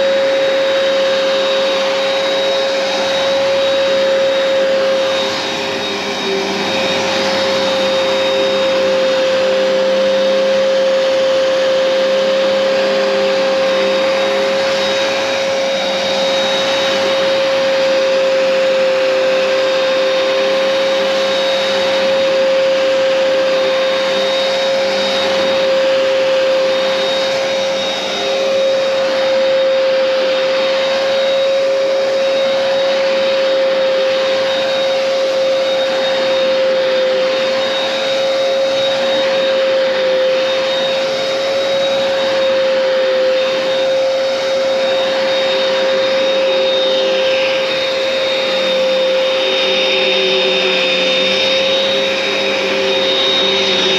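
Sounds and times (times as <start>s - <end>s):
carpet cleaner motor whining: 0.0s - 53.9s.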